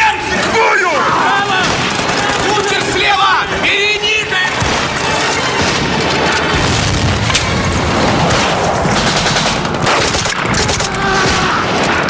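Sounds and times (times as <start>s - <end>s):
gunshots: 0.3s - 12.0s
machine gun firing bursts: 1.2s - 10.9s.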